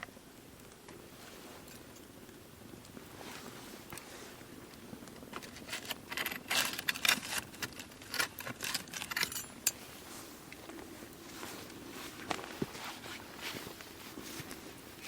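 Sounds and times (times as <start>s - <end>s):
burning wood snapping and popping: 0.0s - 15.0s
wood fire crackling: 0.0s - 15.0s.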